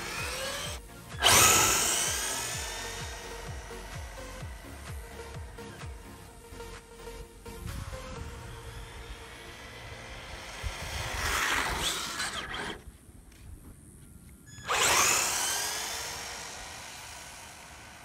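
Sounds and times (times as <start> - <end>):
car taking off with whine: 0.0 - 6.7, 7.4 - 12.8, 14.6 - 18.0
rc car electric motor whine: 0.0 - 6.7, 7.5 - 12.9, 14.4 - 18.0.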